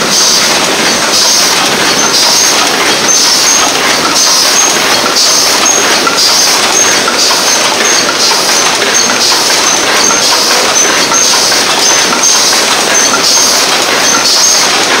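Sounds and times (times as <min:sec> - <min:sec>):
machine clattering: 0:00.0 - 0:15.0.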